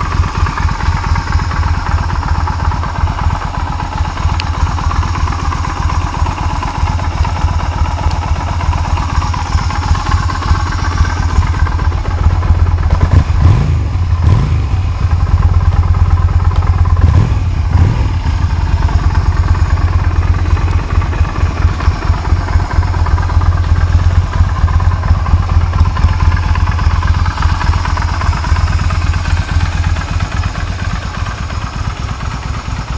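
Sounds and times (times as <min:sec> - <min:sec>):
motorcycle engine idling: 0:00.0 - 0:32.9.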